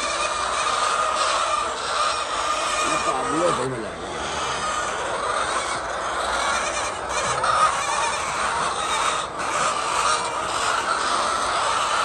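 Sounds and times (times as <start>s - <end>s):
flock of chickens calling: 0.0s - 12.0s.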